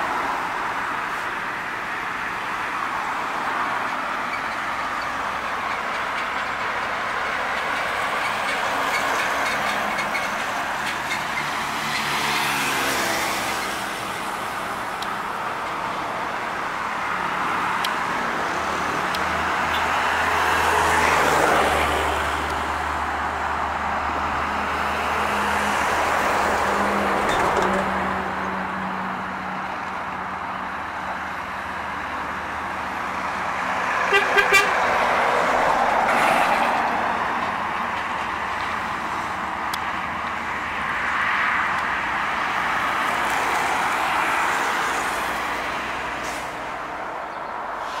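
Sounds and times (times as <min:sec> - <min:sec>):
diesel trucks passing: 0:00.0 - 0:48.0.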